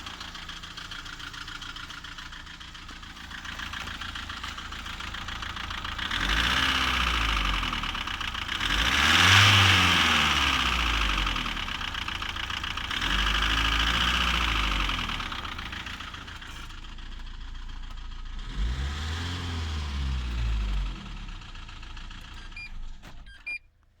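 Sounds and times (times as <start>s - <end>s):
diesel engine revving: 0.0s - 23.6s.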